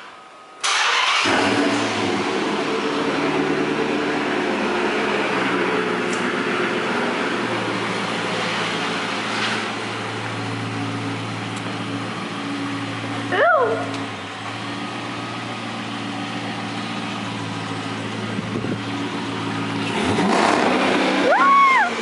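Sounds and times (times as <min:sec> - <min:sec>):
car engine idling: 0:00.7 - 0:22.0.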